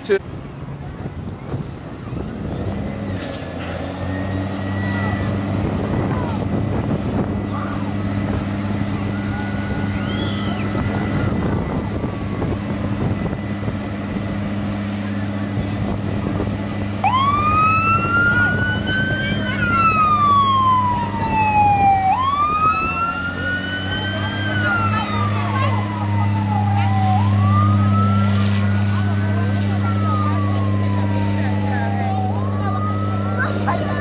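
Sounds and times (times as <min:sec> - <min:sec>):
fire truck siren wailing: 0:03.6 - 0:34.0.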